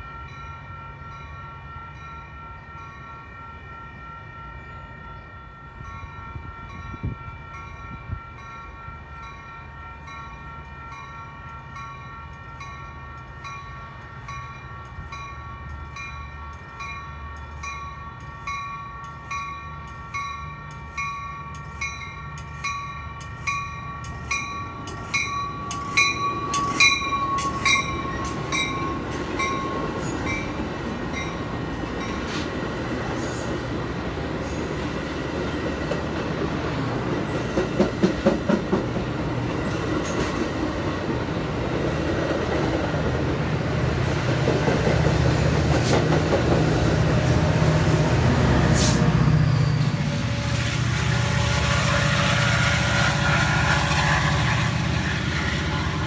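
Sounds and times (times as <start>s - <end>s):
train bell ringing: 0.0s - 56.0s
train wheels rumbling: 0.0s - 56.0s.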